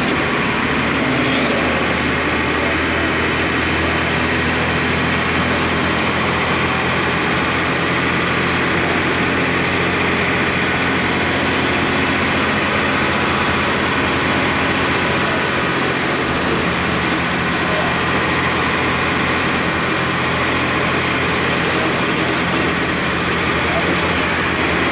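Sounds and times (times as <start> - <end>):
diesel bus engine running: 0.0 - 24.9.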